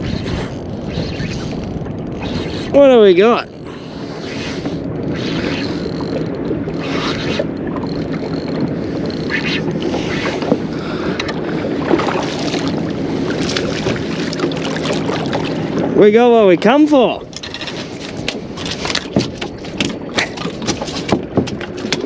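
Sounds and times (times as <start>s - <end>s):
water against a boat: 0.0s - 22.0s
water splashing: 0.0s - 22.0s
wind buffeting microphone: 0.0s - 22.0s.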